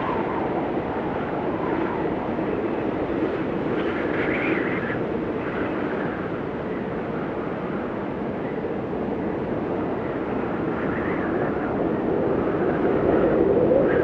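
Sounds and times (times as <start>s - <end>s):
blizzard wind blowing: 0.0s - 14.0s
whistling wind gust: 0.0s - 14.0s.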